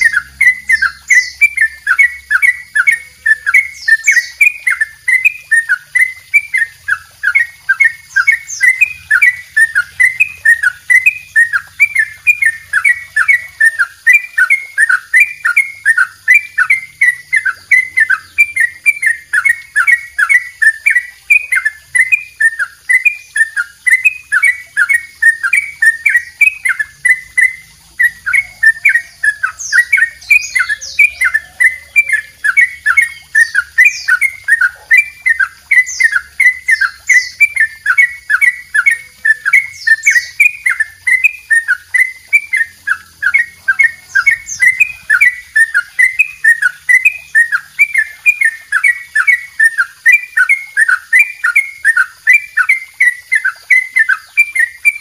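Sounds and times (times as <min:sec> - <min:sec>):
bulbul singing rapid chirps: 0:00.0 - 0:55.0.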